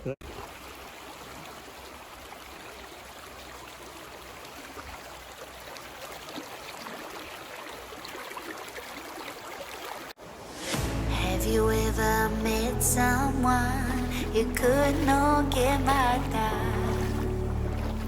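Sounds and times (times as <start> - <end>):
small water splashes: 0.2 - 10.8, 13.3 - 18.0
creek water rushing: 0.2 - 18.0.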